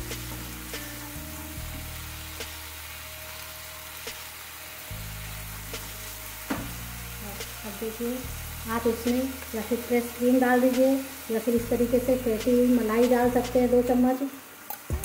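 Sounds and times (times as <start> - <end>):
paste sizzling in hot oil: 0.0 - 15.0
soft background music: 0.0 - 15.0.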